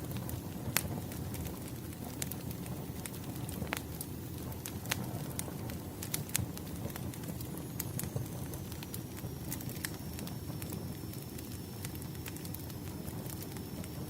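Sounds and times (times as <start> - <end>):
low rumble of flames: 0.0 - 14.0
wood fire pops and snaps: 0.0 - 14.0.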